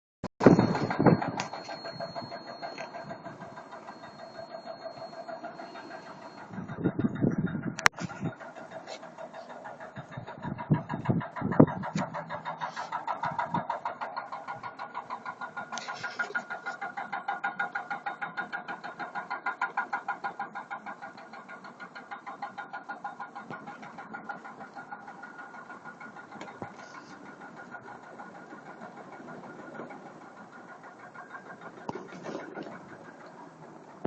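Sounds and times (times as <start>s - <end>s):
engine running with rapid pulsing: 0.4s - 34.0s.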